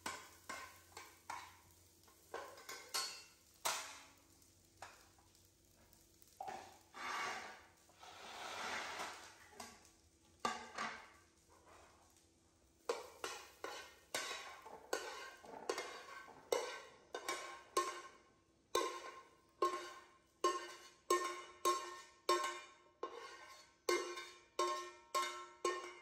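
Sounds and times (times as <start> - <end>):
metal spatula scraping pan: 0.0 - 1.6, 2.2 - 4.1, 6.4 - 9.8, 10.4 - 12.0, 12.9 - 26.0.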